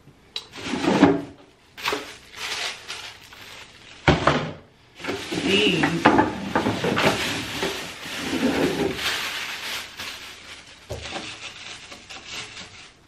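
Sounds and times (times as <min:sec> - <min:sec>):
plastic bag rustling: 0:00.5 - 0:13.0.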